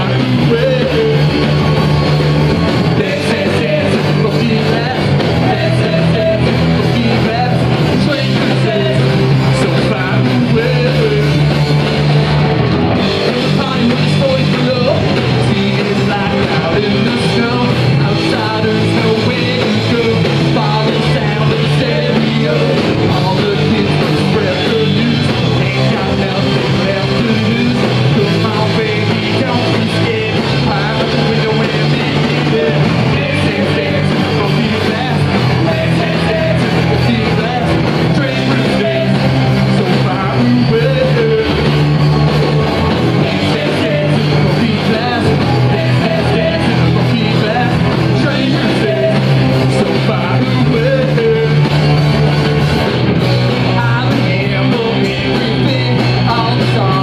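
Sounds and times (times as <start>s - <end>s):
drums: 0.0s - 57.0s
electric guitars: 0.0s - 57.0s.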